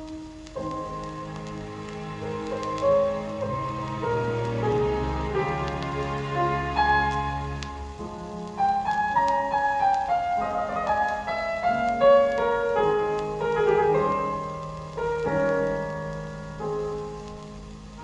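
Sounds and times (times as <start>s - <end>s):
piano music over loudspeakers: 0.0s - 18.0s.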